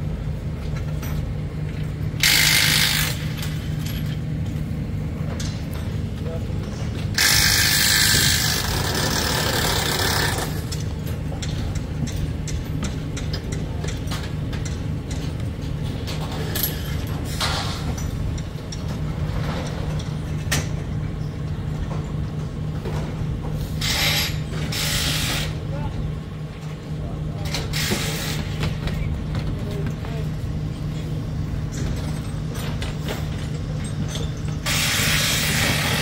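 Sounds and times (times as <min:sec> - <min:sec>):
heavy engine running: 0:00.0 - 0:36.0.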